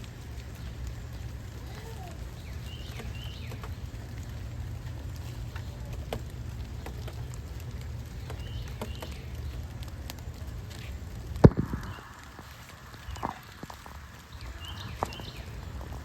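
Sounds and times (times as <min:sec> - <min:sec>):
low wind rumble: 0:00.0 - 0:16.0
rain drops ticking: 0:00.0 - 0:16.0.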